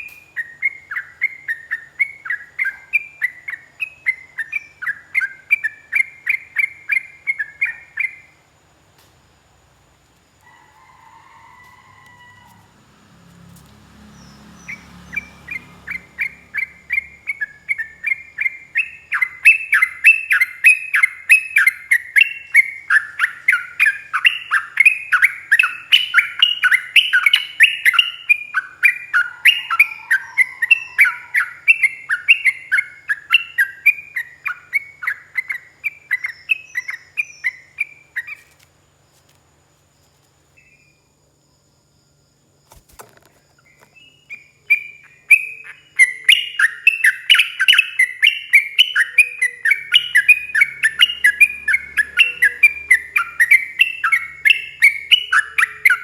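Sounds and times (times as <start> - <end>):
bird chirping song: 0.0 - 8.7, 13.3 - 38.7, 40.0 - 41.6, 42.7 - 56.0.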